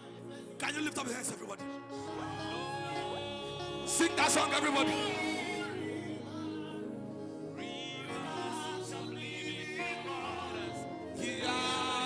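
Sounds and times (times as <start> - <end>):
congregation singing: 0.0 - 12.0
keyboard chords: 0.0 - 12.0.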